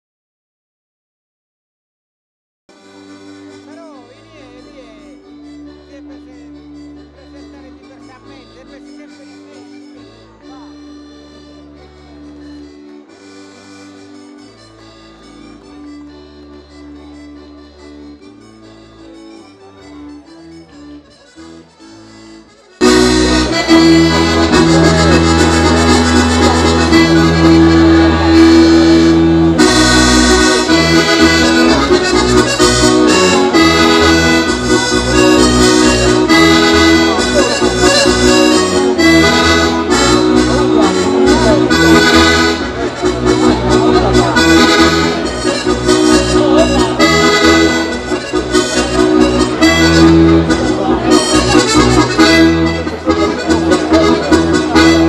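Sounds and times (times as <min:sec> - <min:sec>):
accordion folk dance tune: 0:02.7 - 0:55.0.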